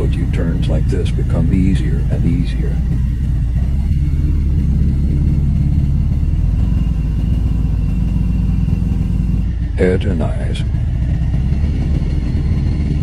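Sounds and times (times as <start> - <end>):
motorcycle engine running low speed: 0.0 - 13.0.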